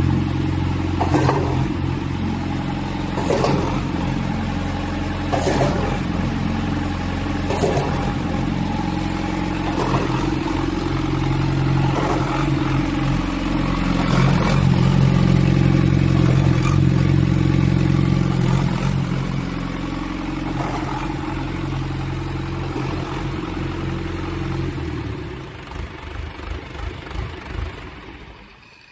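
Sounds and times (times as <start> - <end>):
diesel engine running: 0.0 - 28.6
engine sputtering to a stop: 0.0 - 28.9.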